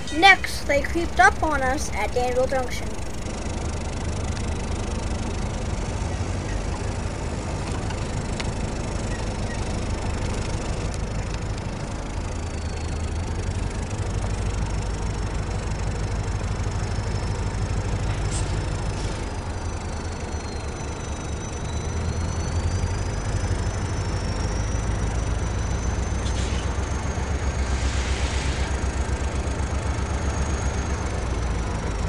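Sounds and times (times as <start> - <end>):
engine idling rumble: 0.0 - 32.0.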